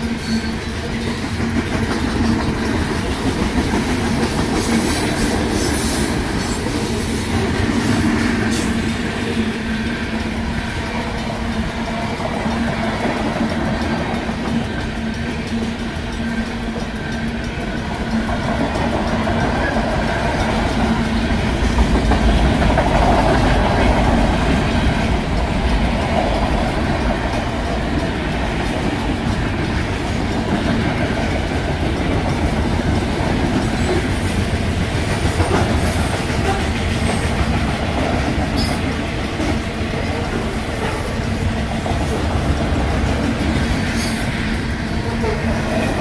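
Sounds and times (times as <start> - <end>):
freight train wheels clattering: 0.0 - 46.0.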